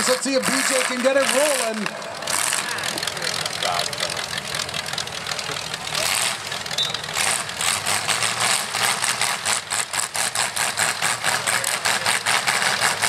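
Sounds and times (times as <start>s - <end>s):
engine cranking without catching: 0.0s - 13.0s.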